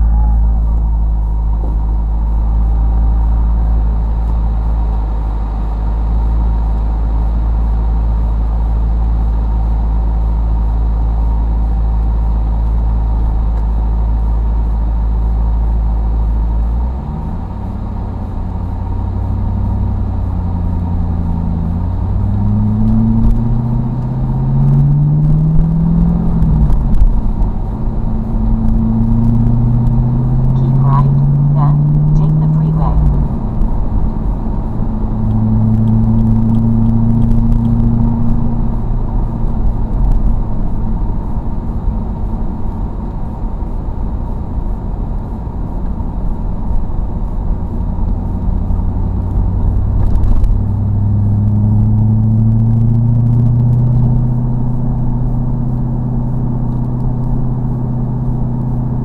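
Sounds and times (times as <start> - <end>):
car engine idling and accelerating: 0.0 - 59.0.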